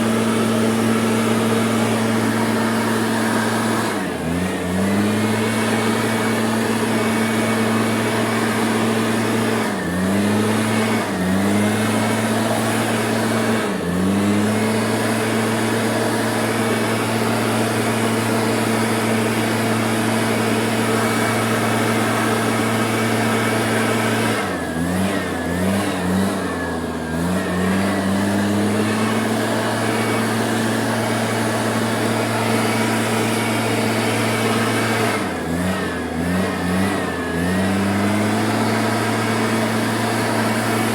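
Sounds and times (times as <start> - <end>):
motor running at high speed: 0.0 - 40.9.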